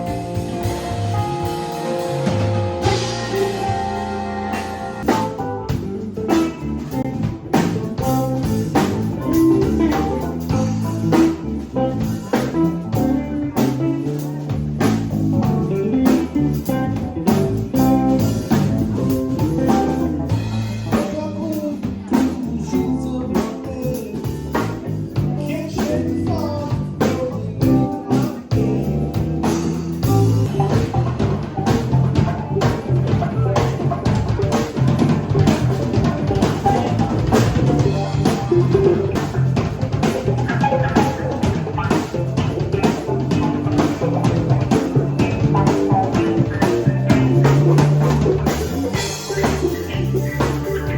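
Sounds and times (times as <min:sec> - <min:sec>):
drum kit steady beat: 0:00.0 - 0:50.9
electric guitar playing: 0:00.0 - 0:50.9.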